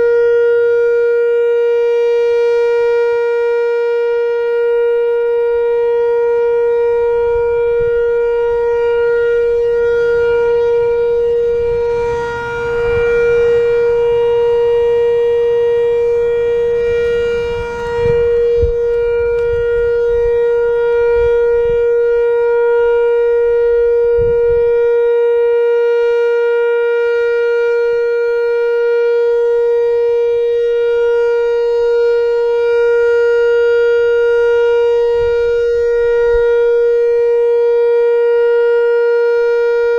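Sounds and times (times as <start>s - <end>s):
electronic warning siren steady tone: 0.0s - 39.9s.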